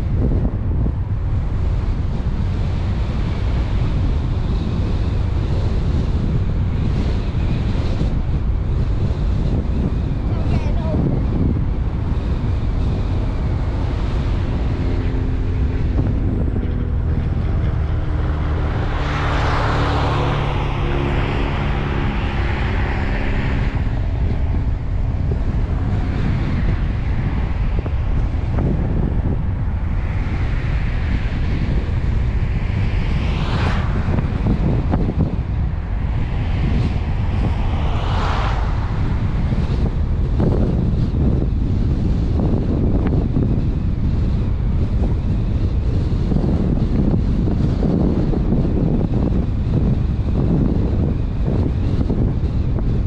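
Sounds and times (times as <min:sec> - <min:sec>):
car engine hum: 0:00.0 - 0:53.0
road rumble: 0:00.0 - 0:53.0
wind buffeting microphone: 0:00.0 - 0:53.0.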